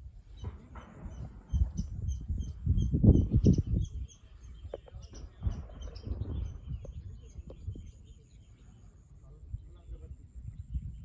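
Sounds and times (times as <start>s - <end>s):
low gusty rumble: 0.0s - 11.0s
small bird chirping: 0.3s - 11.0s.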